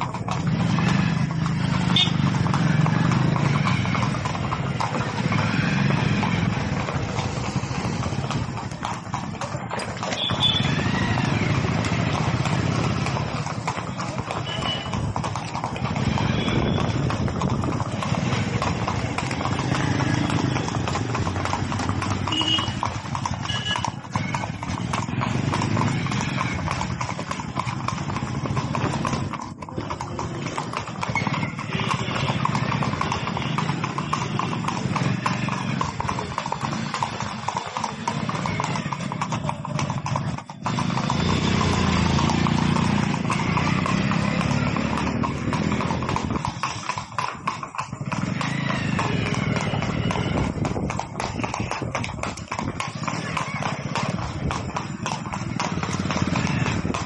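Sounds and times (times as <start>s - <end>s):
horse hooves clip-clopping: 0.0s - 57.0s.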